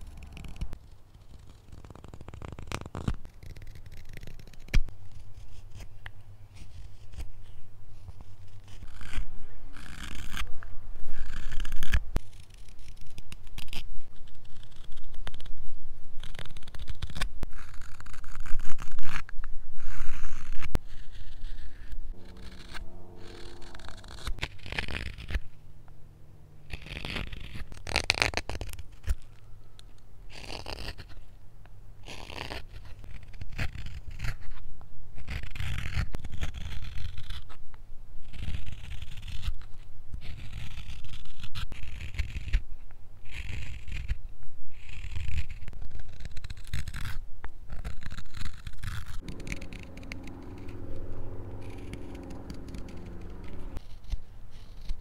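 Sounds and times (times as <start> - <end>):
knife carving wood: 0.0 - 10.5, 11.1 - 15.6, 16.2 - 22.8, 26.6 - 29.3, 30.3 - 31.2, 32.0 - 34.6, 35.2 - 37.6, 38.2 - 42.6, 43.2 - 50.7, 52.5 - 55.0.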